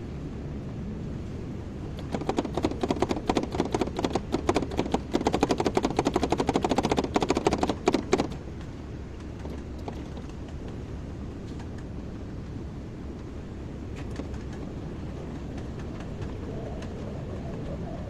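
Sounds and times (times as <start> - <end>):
excavator engine hum: 0.0 - 18.0.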